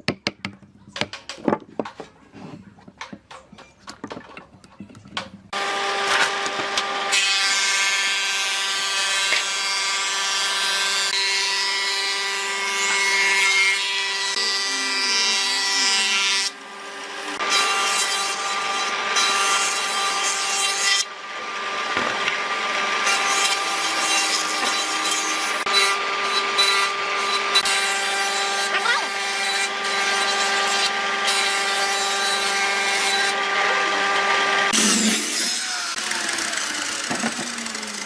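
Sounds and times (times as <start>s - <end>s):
power tool cutting wood: 5.5s - 38.0s.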